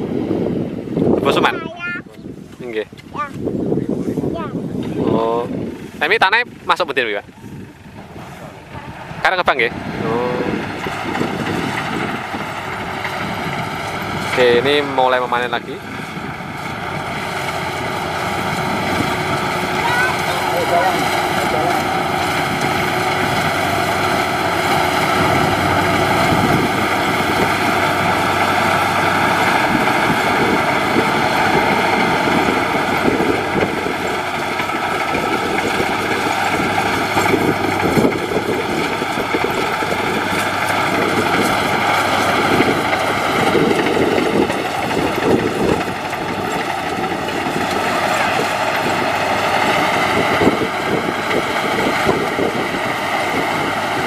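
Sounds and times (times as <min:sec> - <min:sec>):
combine harvester engine drone: 0:00.0 - 0:54.0
machine whine: 0:05.1 - 0:54.0.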